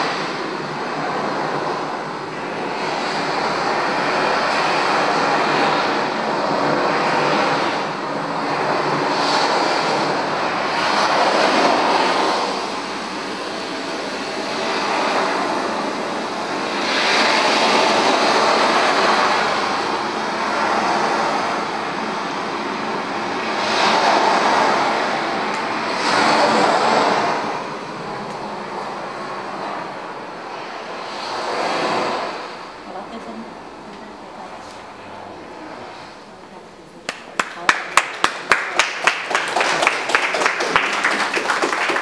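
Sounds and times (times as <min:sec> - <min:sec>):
loud rushing noise: 0:00.0 - 0:42.0.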